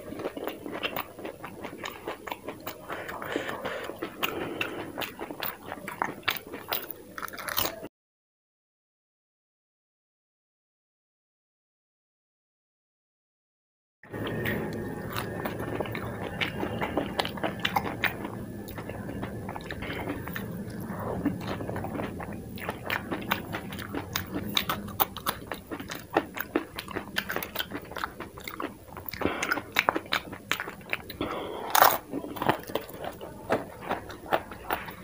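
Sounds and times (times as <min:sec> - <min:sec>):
crunchy food being chewed: 0:00.0 - 0:07.9, 0:14.1 - 0:35.0.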